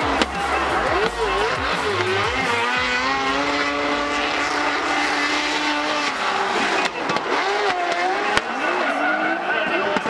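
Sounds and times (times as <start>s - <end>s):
car engines revving: 0.0s - 10.0s
tyre noise: 0.0s - 10.0s.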